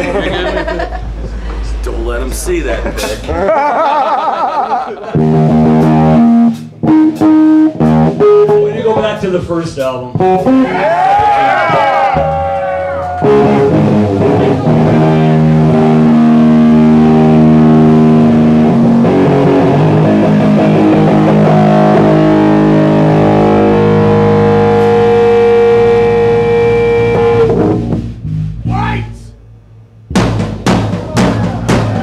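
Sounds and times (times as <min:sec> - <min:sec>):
bass guitar: 0:05.1 - 0:32.0
distorted electric guitar chords: 0:05.1 - 0:32.0.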